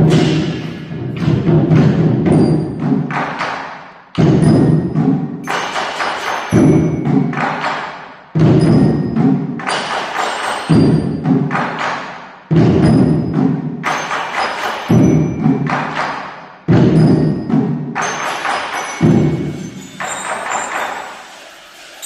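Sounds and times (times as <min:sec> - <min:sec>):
loud ringing percussion strikes: 0:00.0 - 0:03.5, 0:04.2 - 0:11.9, 0:12.5 - 0:22.0
thin ringing percussion pattern: 0:00.0 - 0:22.0.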